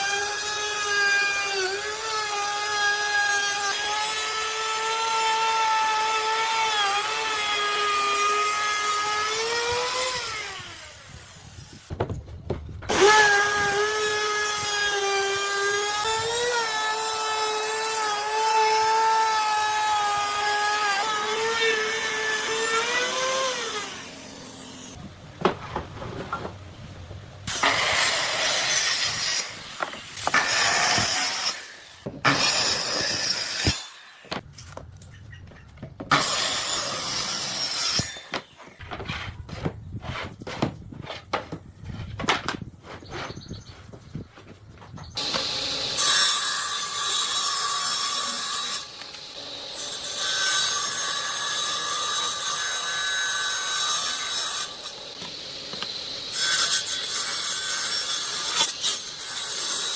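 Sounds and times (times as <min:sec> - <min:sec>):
tool cutting through wood: 0:00.0 - 0:11.9, 0:12.9 - 0:25.0, 0:27.5 - 0:34.8, 0:36.1 - 0:43.7, 0:45.1 - 0:59.9.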